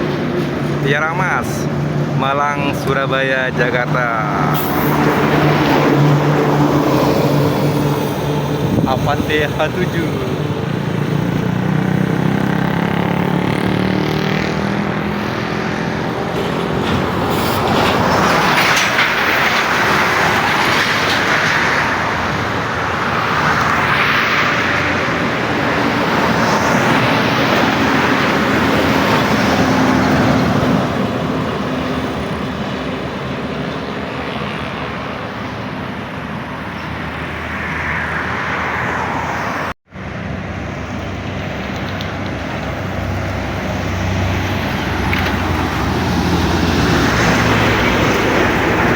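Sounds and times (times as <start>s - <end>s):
bus engines humming: 0.0s - 48.9s
vehicles passing: 0.0s - 48.9s.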